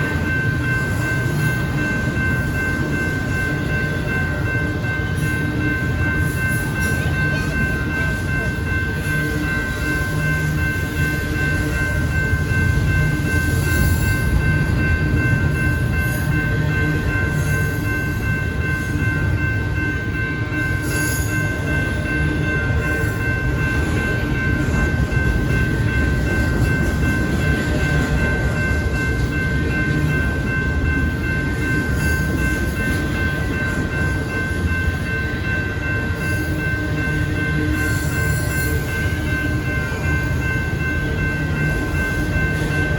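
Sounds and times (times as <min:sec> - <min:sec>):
crossing bell ringing: 0:00.0 - 0:42.9
train rumbling past: 0:00.0 - 0:42.9.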